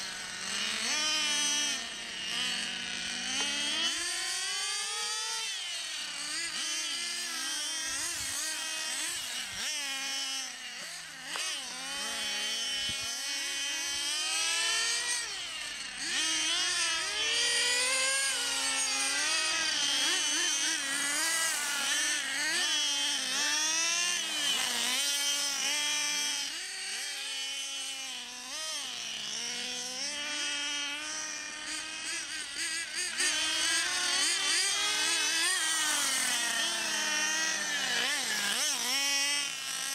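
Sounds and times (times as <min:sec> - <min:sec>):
small engines whining at high revs: 0:00.0 - 0:39.9.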